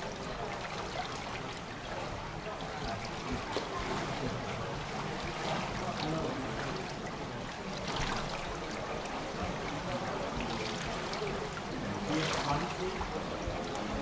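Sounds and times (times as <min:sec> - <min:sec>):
pool water trickling and lapping: 0:00.0 - 0:14.0.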